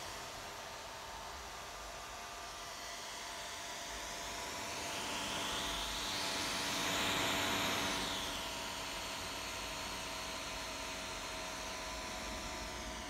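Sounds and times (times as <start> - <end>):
laptop cooling fans running: 0.0 - 13.0.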